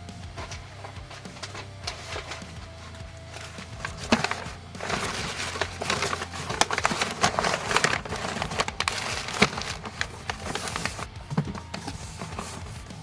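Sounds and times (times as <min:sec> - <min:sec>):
packing material crumpling: 0:00.4 - 0:12.8.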